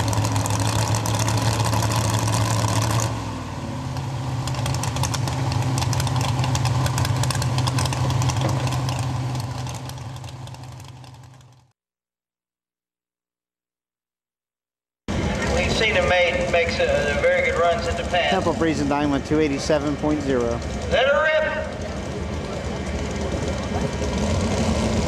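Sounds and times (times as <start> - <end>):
truck engine rough crackling idle: 0.0 - 3.2, 3.8 - 11.7, 15.1 - 25.0.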